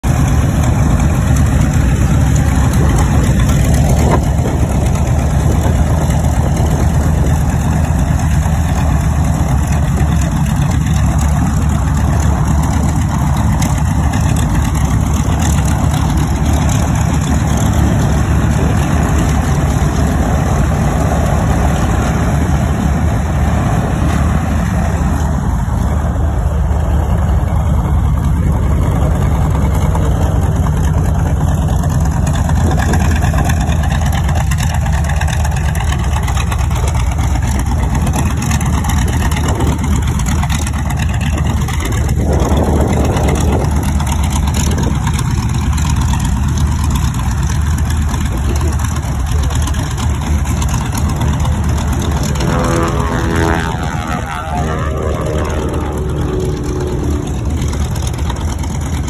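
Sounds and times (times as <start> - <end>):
radial engine droning: 0.0 - 59.0.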